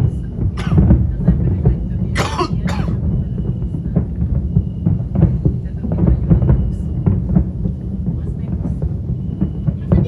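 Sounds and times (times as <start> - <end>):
distant fireworks booming: 0.0 - 10.0.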